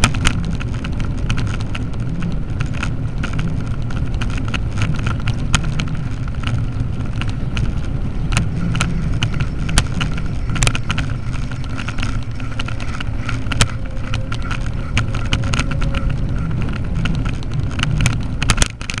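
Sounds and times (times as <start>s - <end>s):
bicycle rumbling over cobblestones: 0.0s - 19.0s
sharp clicks and rattling knocks: 0.0s - 19.0s.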